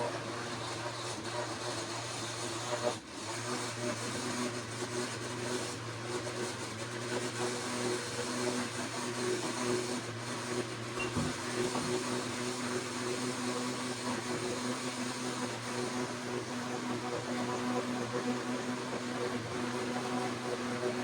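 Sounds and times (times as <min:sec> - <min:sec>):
blender running: 0:00.0 - 0:21.0.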